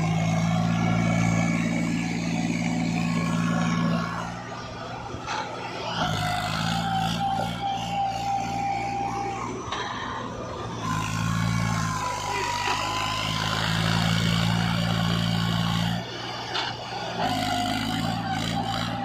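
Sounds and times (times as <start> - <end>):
tractor diesel engine straining: 0.0 - 19.0.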